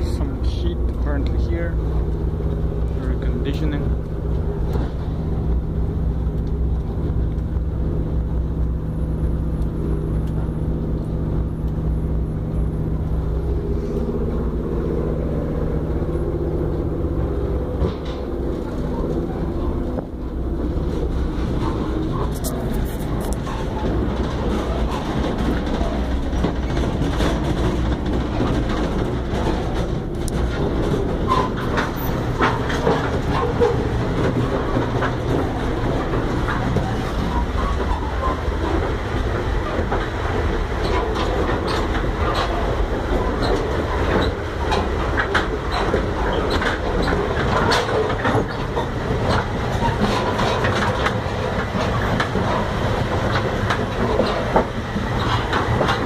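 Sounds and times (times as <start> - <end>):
train car rumbling on rails: 0.0 - 56.0
train wheels rattling and clacking: 0.0 - 56.0.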